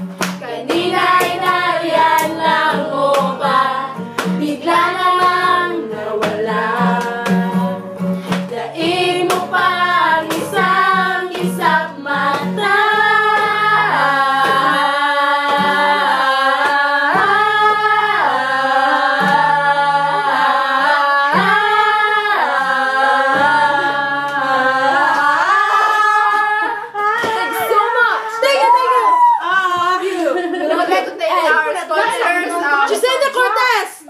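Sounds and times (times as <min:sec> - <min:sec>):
acoustic guitar strummed: 0:00.0 - 0:28.1
girls singing together: 0:00.0 - 0:33.7.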